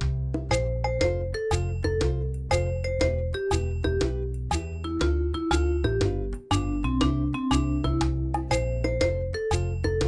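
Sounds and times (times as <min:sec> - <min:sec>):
steady bass line: 0:00.0 - 0:10.0.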